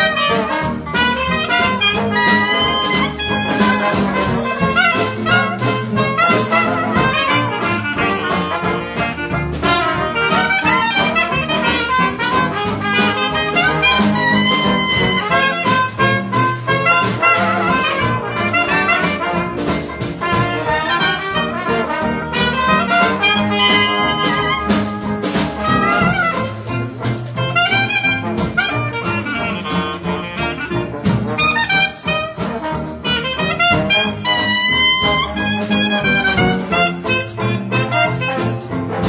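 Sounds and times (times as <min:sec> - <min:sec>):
clarinet: 0:00.0 - 0:39.0
drums: 0:00.0 - 0:39.0
piano: 0:00.0 - 0:39.0
trombone: 0:00.0 - 0:39.0
trumpet: 0:00.0 - 0:39.0.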